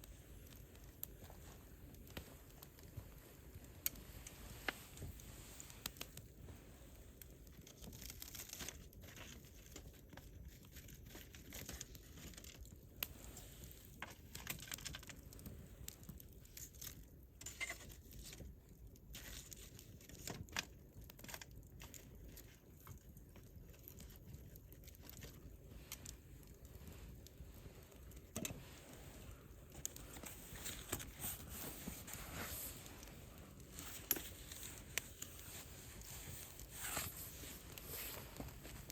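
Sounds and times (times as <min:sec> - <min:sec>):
wood campfire crackling: 0:00.0 - 0:38.9.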